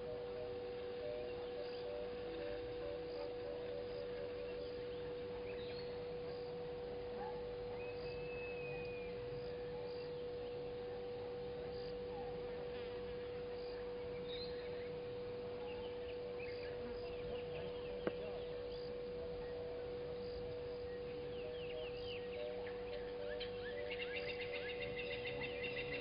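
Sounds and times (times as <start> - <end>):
faint bird-like chirps: 0.0 - 26.0
steady hum: 0.0 - 26.0.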